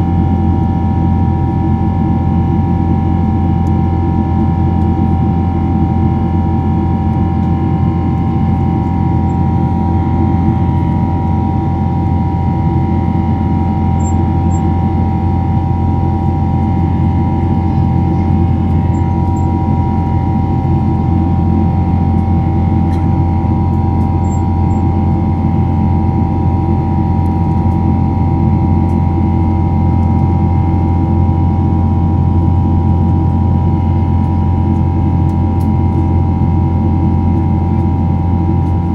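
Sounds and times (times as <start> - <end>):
airliner cabin engine drone: 0.0 - 38.9.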